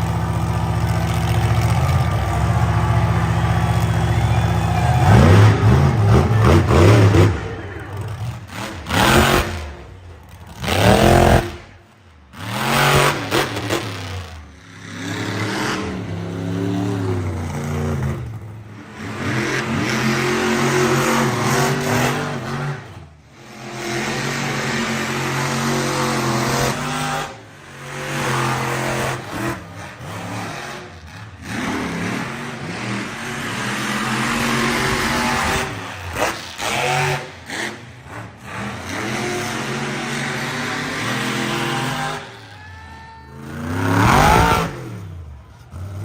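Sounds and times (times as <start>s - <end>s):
monster truck engine revving: 0.0s - 42.7s, 43.3s - 46.0s.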